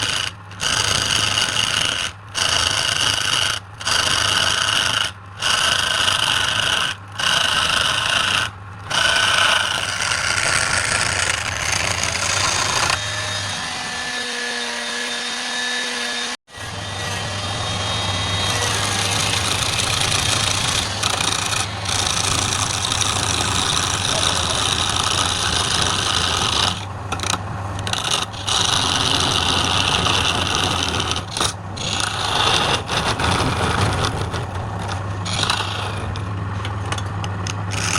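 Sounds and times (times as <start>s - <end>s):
power tool sanding wood: 0.0s - 36.3s.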